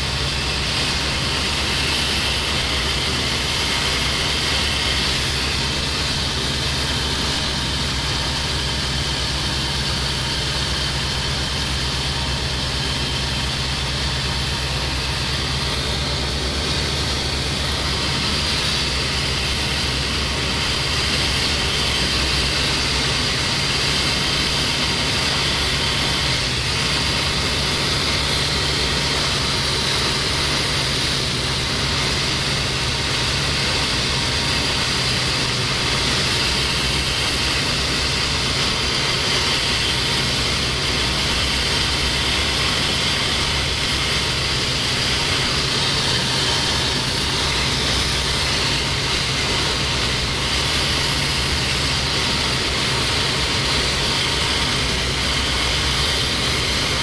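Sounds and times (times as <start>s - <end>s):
propeller aircraft engine in cockpit: 0.0s - 57.0s.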